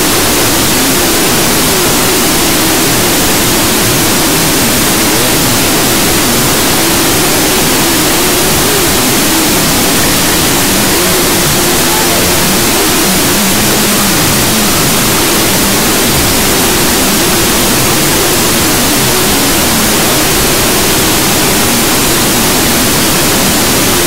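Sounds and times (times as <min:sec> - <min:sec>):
static-like hiss: 0:00.0 - 0:24.0
faint tune: 0:00.1 - 0:24.0.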